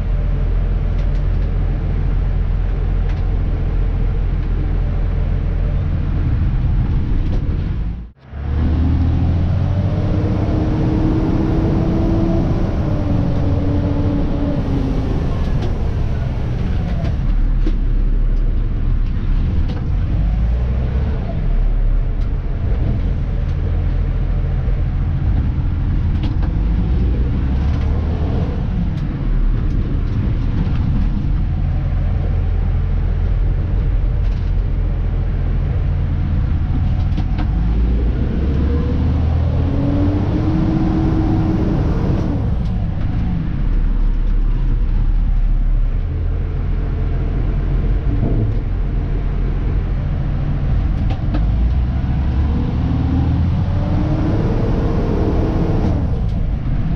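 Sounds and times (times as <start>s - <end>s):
truck diesel engine running: 0.0s - 56.9s
rising whine: 3.4s - 56.9s.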